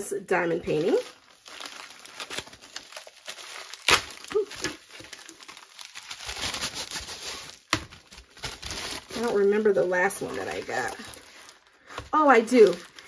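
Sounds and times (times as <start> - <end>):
plastic bag crinkling: 0.5 - 13.0
sharp plastic crackles: 0.7 - 13.0.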